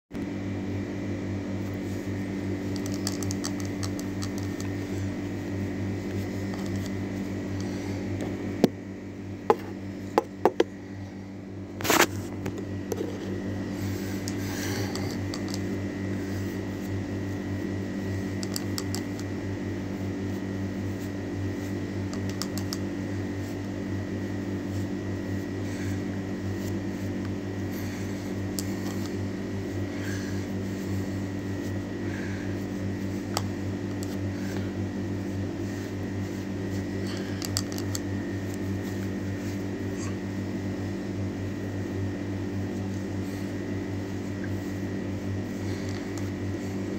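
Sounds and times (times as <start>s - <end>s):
machine hum with high whine: 0.1s - 46.9s.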